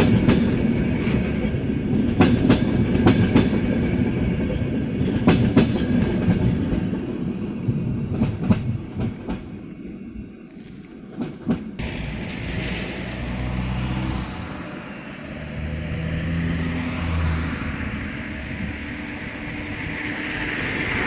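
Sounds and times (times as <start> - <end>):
distant train rumbling: 0.0 - 21.0.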